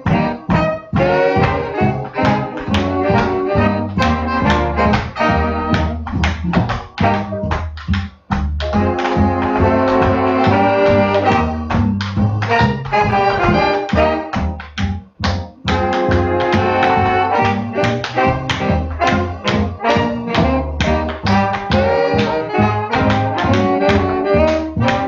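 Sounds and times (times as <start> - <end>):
big band swing jazz: 0.0 - 25.0.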